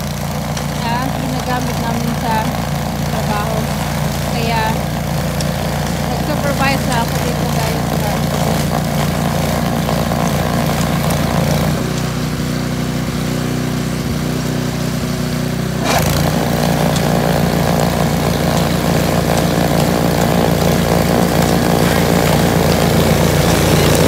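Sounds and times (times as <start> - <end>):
snow blower engine running: 0.0 - 24.0.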